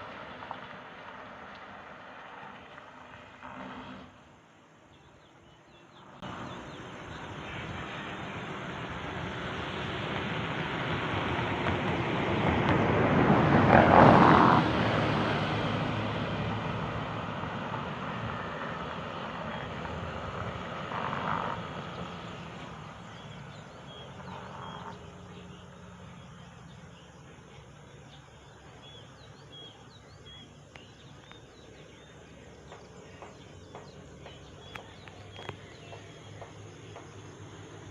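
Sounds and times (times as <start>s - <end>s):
vehicle passing by: 0.0s - 4.4s, 6.0s - 37.9s.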